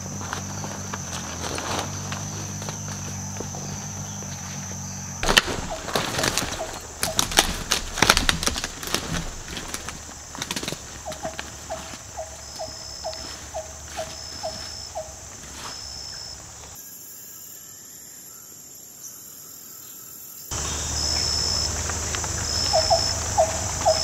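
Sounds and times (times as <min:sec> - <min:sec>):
sharp crackles and knocks: 0:00.0 - 0:15.8, 0:20.5 - 0:24.0.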